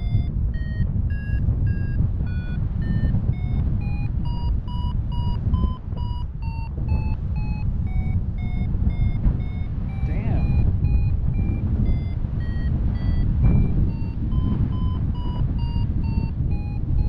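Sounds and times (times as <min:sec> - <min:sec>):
variometer beeping: 0:00.0 - 0:17.0
wind rumble on microphone: 0:00.0 - 0:17.0.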